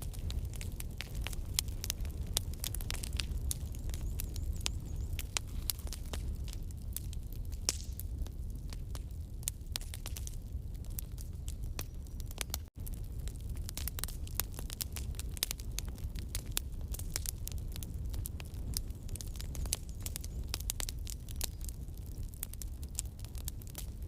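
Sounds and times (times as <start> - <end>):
campfire crackling and popping: 0.0 - 24.0
low rumble of flames: 0.0 - 24.0.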